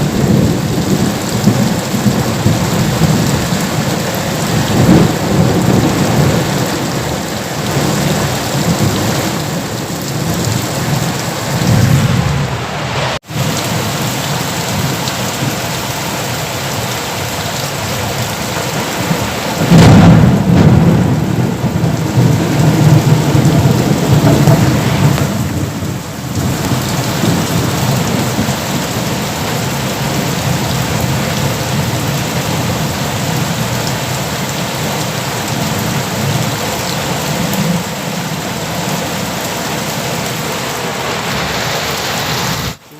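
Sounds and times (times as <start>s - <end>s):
rolling thunder: 0.0s - 15.6s, 17.6s - 41.6s
heavy rain falling: 0.0s - 42.9s.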